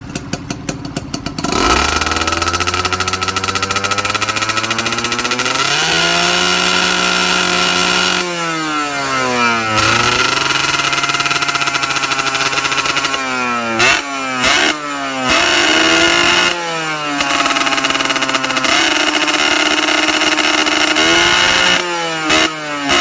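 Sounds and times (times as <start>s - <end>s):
motorcycle engine popping and revving: 0.0s - 23.0s.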